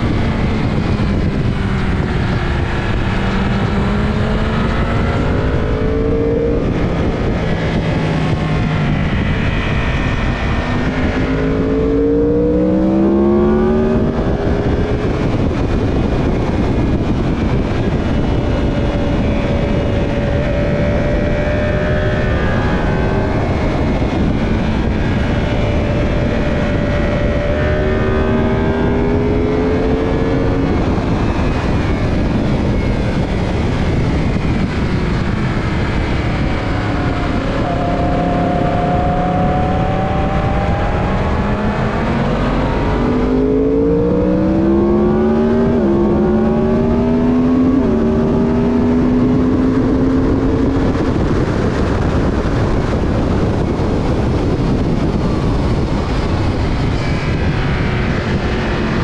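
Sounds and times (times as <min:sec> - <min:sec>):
racing motorcycle engine: 0:00.0 - 0:59.0
wind rush: 0:00.0 - 0:59.0.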